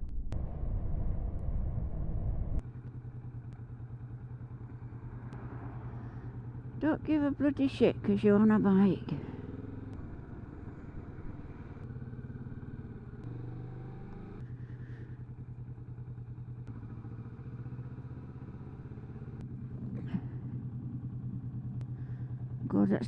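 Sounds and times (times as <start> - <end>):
motorcycle engine running: 2.6 - 23.0.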